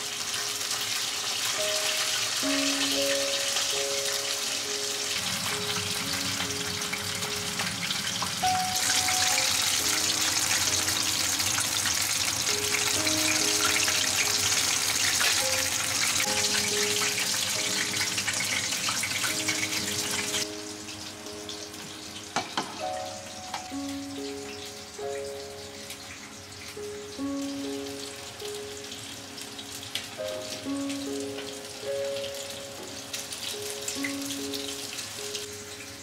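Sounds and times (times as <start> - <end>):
deep-frying crackling sizzle: 0.0 - 36.0.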